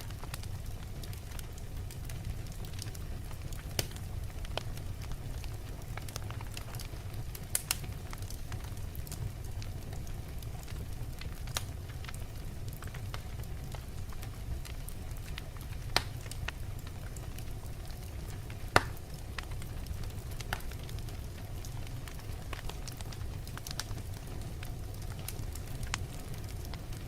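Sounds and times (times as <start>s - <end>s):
fire crackling in a fireplace: 0.0s - 27.0s
fire pops: 0.1s - 27.0s.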